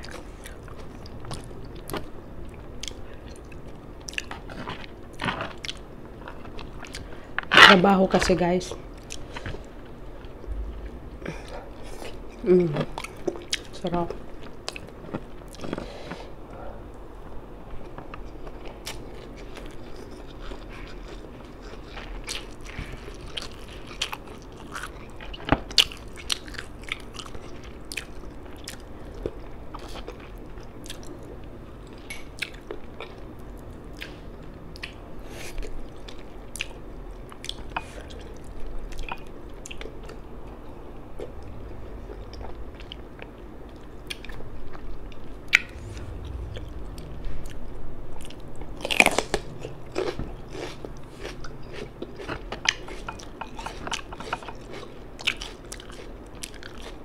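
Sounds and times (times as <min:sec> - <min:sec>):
person chewing and lip smacking: 0:00.0 - 0:05.8, 0:08.9 - 0:15.8, 0:18.2 - 0:31.3, 0:31.9 - 0:47.6, 0:48.2 - 0:57.0.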